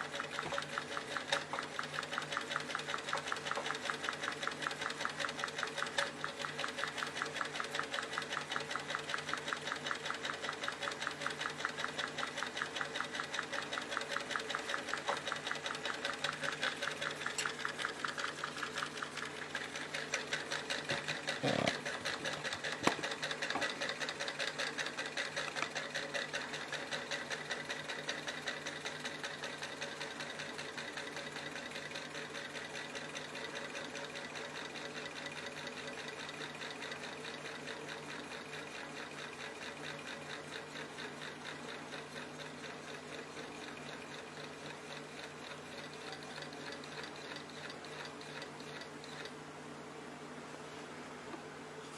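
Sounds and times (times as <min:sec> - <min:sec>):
small engine clattering tick: 0:00.0 - 0:49.4.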